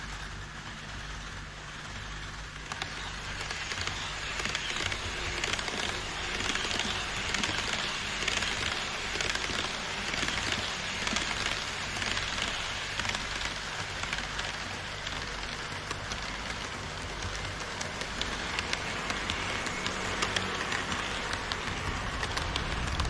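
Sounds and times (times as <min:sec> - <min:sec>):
low hum: 0:00.0 - 0:23.0
model train wheels rattling on rails: 0:00.0 - 0:23.0
wheels clicking over rail joints: 0:00.0 - 0:23.0.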